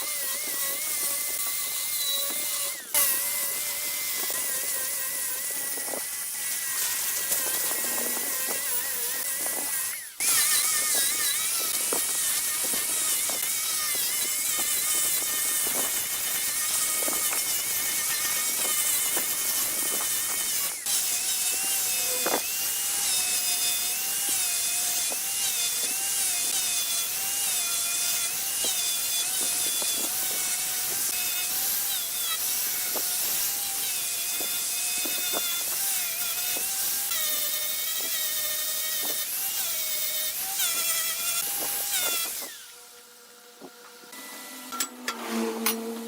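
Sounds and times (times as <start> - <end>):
wood lathe cutting wood: 0.0 - 46.0.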